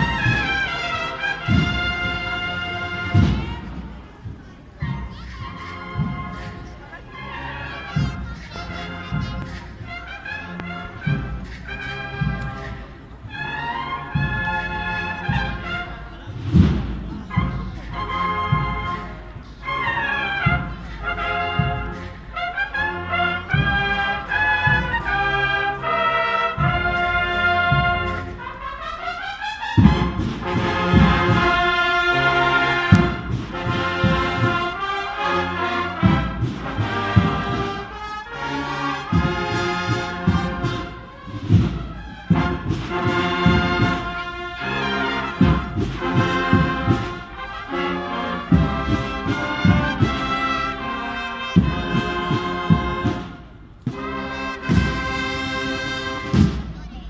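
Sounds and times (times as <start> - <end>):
tuba: 0.0 - 4.0, 4.8 - 56.9
cornets playing melody: 0.0 - 4.1, 4.8 - 56.5
drums: 0.0 - 57.0.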